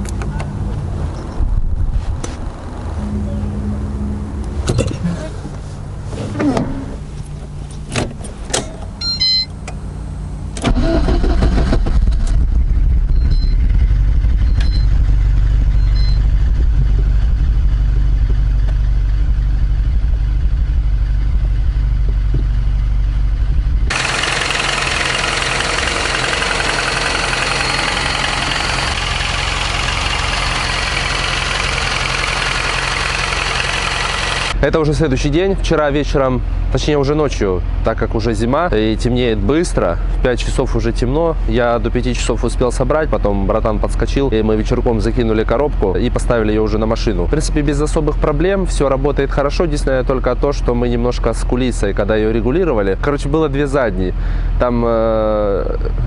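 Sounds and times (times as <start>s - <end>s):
harsh noisy engine: 2.6s - 7.2s, 9.9s - 56.0s
car engine starting and idling: 2.6s - 56.0s.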